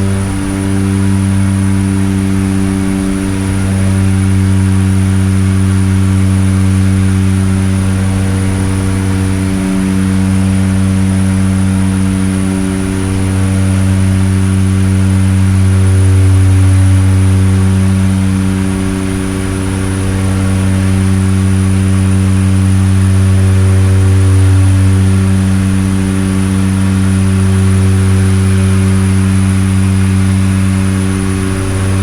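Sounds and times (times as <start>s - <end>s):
propeller engines droning: 0.0s - 32.0s.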